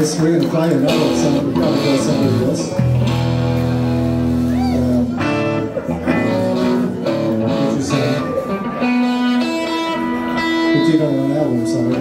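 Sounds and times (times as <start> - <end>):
electric guitars: 0.0 - 12.0
electric bass: 0.2 - 12.0.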